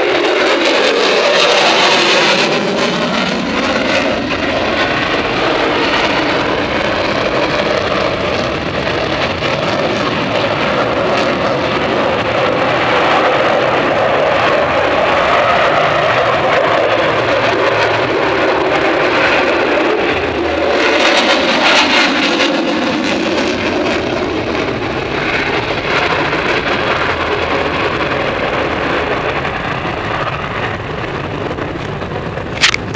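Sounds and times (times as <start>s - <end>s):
fighter jet roar overhead: 0.0s - 32.9s.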